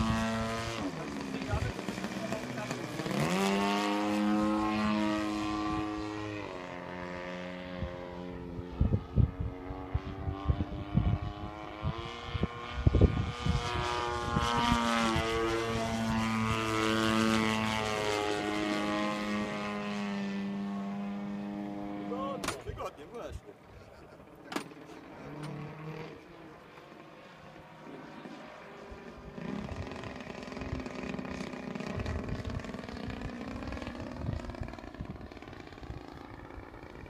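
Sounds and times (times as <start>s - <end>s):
model plane engine and propeller: 0.0s - 37.0s.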